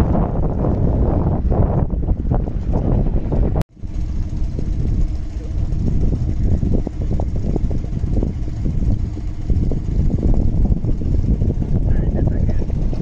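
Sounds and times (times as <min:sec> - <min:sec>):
boat engine idling: 0:00.0 - 0:13.0
wind buffeting microphone: 0:00.0 - 0:13.0.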